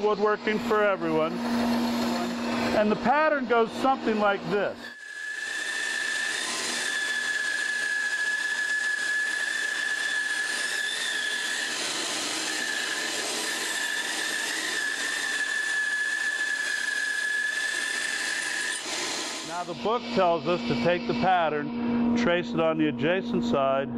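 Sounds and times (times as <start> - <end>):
bandsaw cutting wood: 0.0 - 21.6
dust collector running: 0.0 - 23.9.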